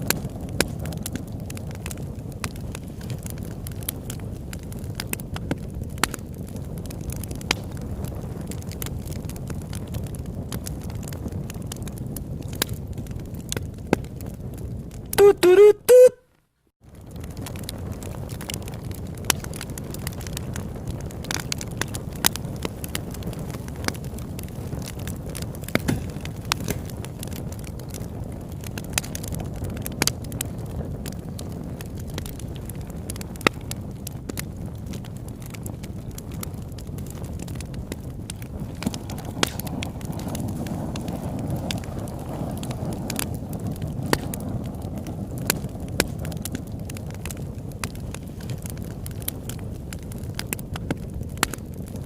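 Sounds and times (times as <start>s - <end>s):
low fire rumble: 0.0s - 15.2s, 16.4s - 52.0s
campfire crackling and popping: 0.0s - 52.0s.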